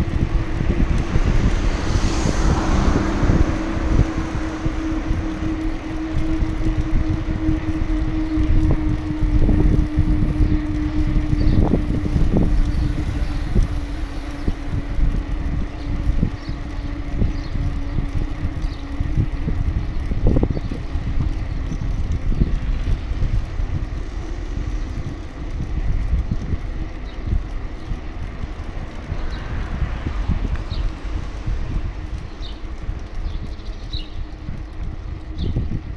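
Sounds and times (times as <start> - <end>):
low hum: 0.0 - 35.9
wind buffeting the microphone: 0.0 - 35.9.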